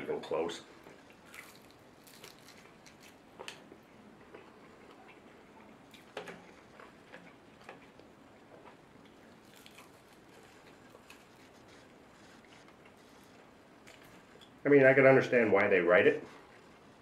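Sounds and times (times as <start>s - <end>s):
person eating and chewing: 0.8s - 14.6s.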